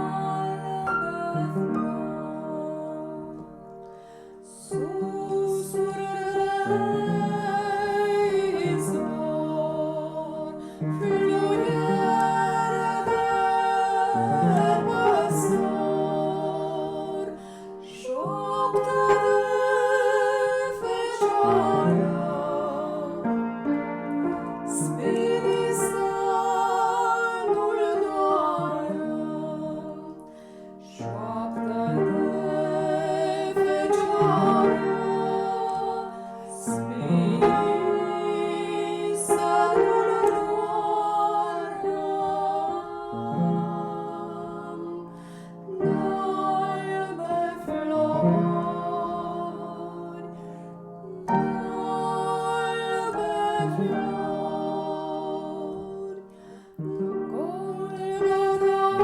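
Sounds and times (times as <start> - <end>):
keyboard accompaniment: 0.0 - 59.0
person singing a carol: 0.0 - 59.0.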